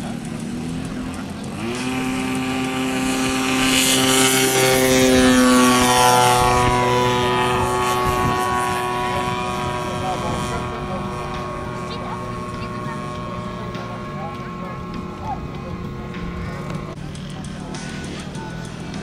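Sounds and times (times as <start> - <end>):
model airplane engine running: 0.0 - 19.0.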